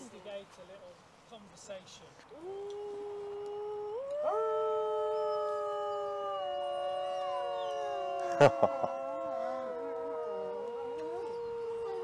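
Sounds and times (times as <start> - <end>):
people howling like wolves: 2.3 - 12.0.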